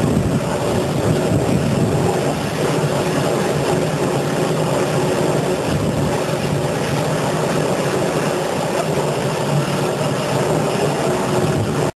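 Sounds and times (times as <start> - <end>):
low hum: 0.0 - 11.9
machinery droning: 0.0 - 11.9.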